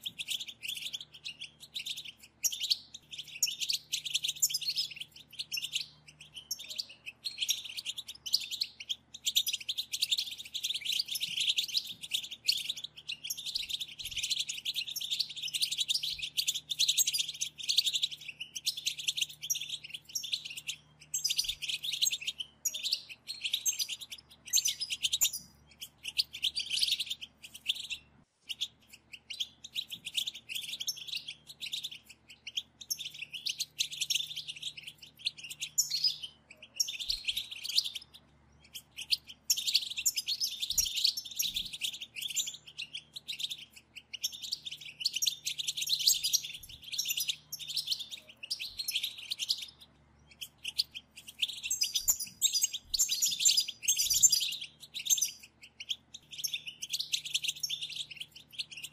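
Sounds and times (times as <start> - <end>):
goldfinches twittering: 0.0 - 58.9.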